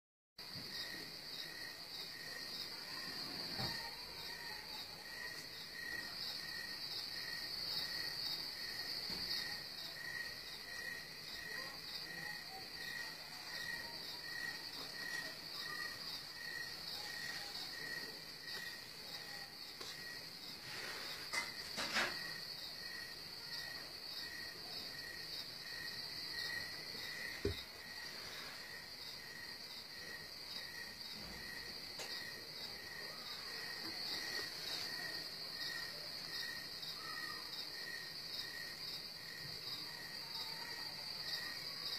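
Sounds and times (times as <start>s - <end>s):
insects chirping: 0.4s - 41.9s.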